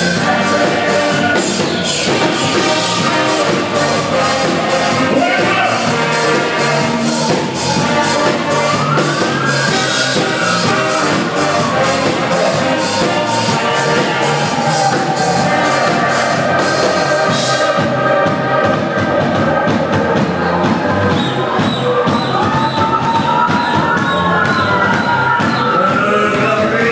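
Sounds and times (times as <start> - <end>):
brass horns: 0.0 - 26.9
steady percussion beat: 0.0 - 26.9.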